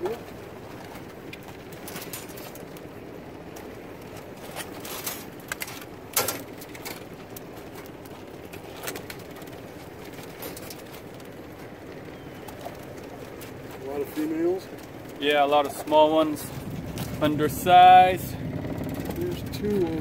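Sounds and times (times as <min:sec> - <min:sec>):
crabs being handled: 0:00.0 - 0:17.7.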